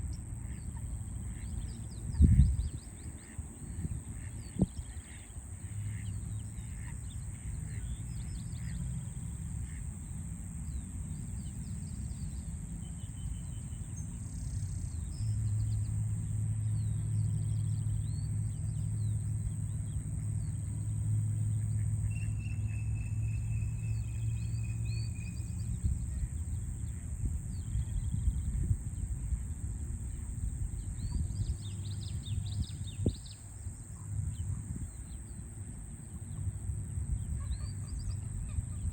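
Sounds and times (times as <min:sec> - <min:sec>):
low city hum: 0:00.0 - 0:38.9.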